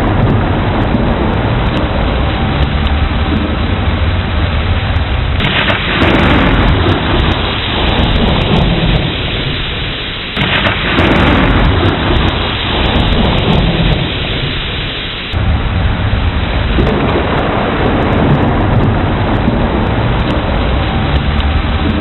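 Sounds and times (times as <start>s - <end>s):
heavy rain: 0.0s - 22.0s
thunder rumbling: 0.0s - 22.0s.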